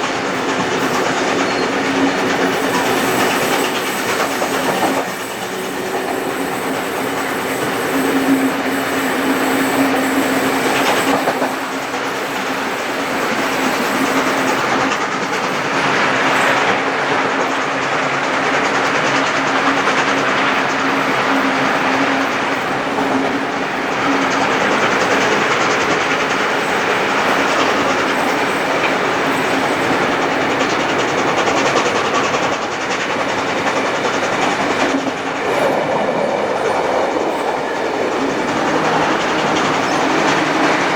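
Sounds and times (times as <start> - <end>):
train wheels clattering on rails: 0.0 - 40.9.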